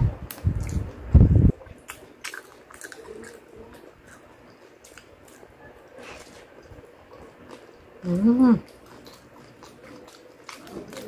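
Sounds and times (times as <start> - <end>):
chewing crispy fried chicken: 0.2 - 11.0.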